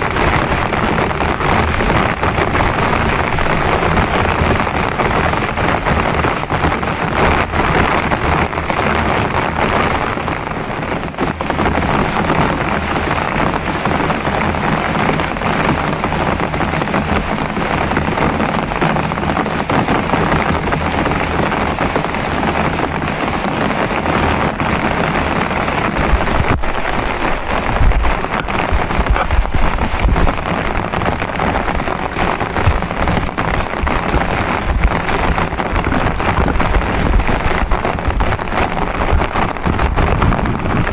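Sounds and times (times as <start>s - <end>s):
heavy rain pouring: 0.0s - 40.9s
low rumbling gusts: 0.0s - 40.9s.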